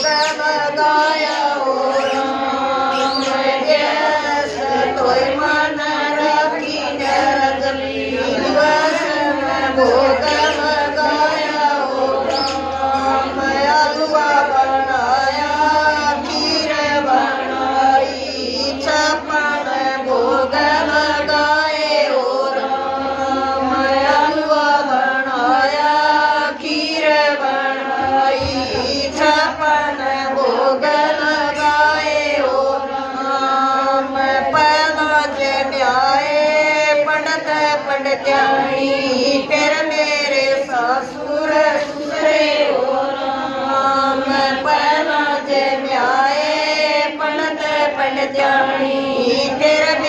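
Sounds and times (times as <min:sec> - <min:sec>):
women singing together: 0:00.0 - 0:50.0.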